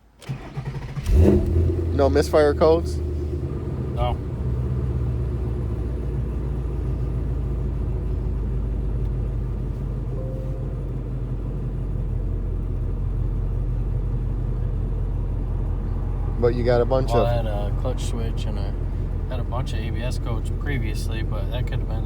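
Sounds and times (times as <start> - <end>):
car engine idling: 0.2 - 22.0.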